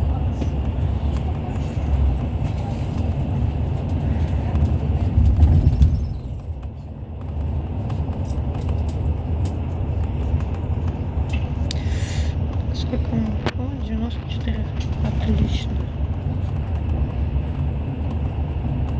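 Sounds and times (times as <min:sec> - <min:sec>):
bus engine and road rumble: 0:00.0 - 0:18.9.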